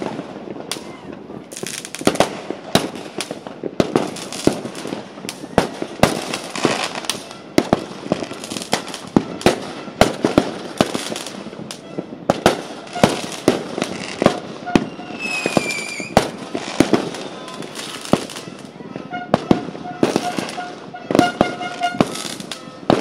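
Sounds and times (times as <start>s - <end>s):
fireworks bangs and pops: 0.0s - 23.0s
fireworks crackling: 0.0s - 23.0s.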